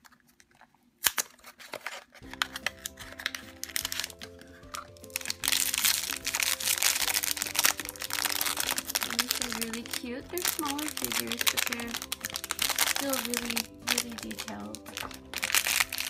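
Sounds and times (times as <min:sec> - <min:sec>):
foil wrapper crinkling: 0:00.0 - 0:16.0
background music: 0:02.2 - 0:16.0.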